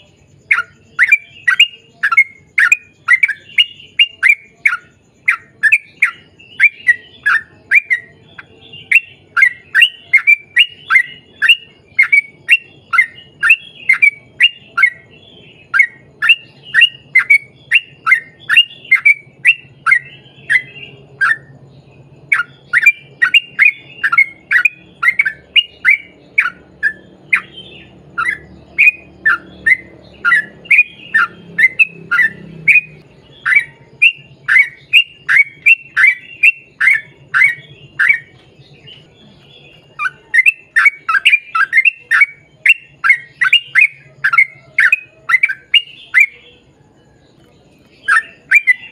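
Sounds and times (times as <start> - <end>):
bird singing short downslurred notes: 0.0 - 48.9.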